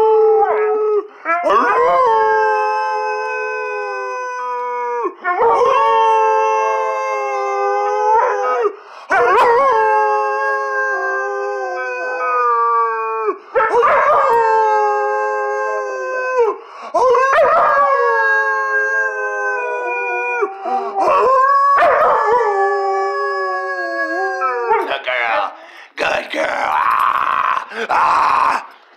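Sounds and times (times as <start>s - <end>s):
puppy howling: 0.0s - 24.9s.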